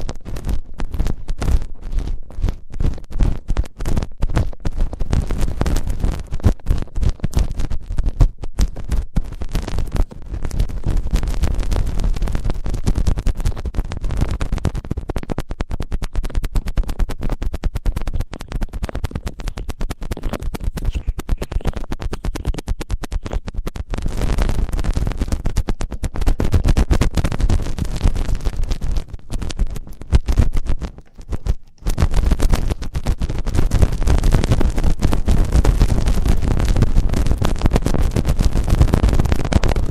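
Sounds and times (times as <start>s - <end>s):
scratching on microphone: 0.0s - 39.9s.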